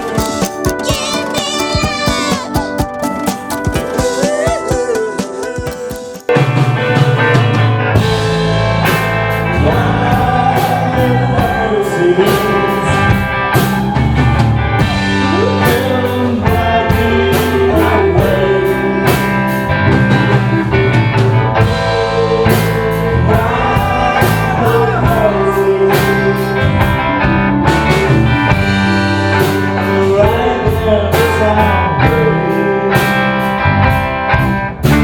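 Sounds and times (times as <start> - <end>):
person singing: 0.0 - 8.7, 9.5 - 14.2, 14.8 - 33.4
live rock band playing: 0.0 - 35.0
low bass notes: 7.0 - 35.0.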